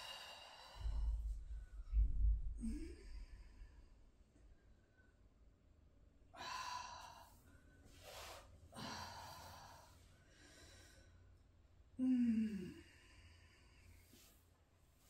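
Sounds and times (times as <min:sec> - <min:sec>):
woman breathing audibly: 0:00.0 - 0:05.2, 0:06.3 - 0:15.0.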